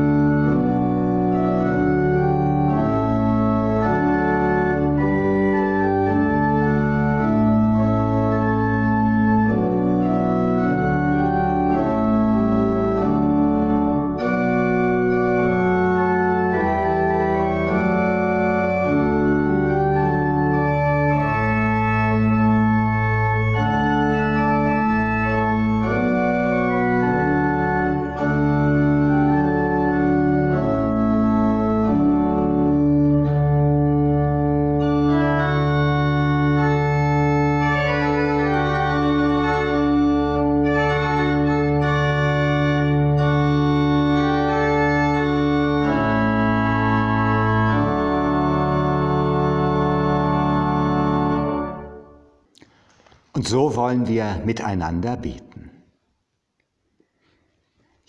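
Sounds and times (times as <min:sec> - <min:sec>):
pipe organ playing chords: 0:00.0 - 0:55.7.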